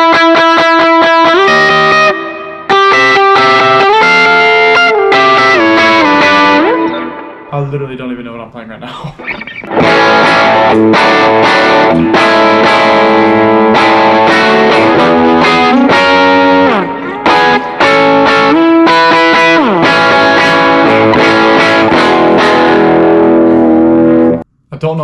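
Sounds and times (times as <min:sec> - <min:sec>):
distorted electric guitar: 0:00.0 - 0:07.5, 0:09.0 - 0:24.4.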